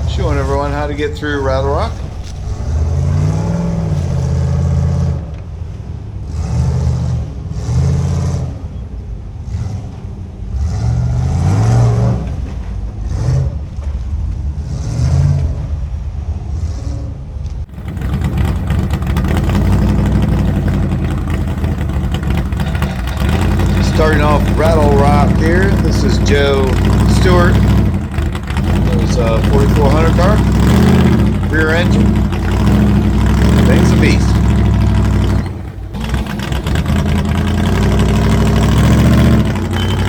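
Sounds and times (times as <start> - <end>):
engine revving in short bursts: 0.0 - 40.0.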